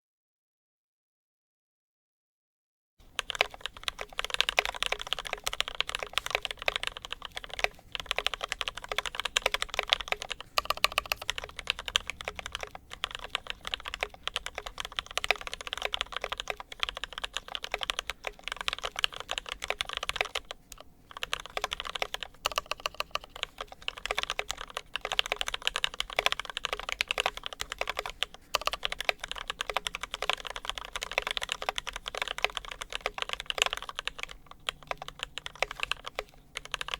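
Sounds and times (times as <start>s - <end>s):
fast typing on keyboard: 3.0s - 36.9s.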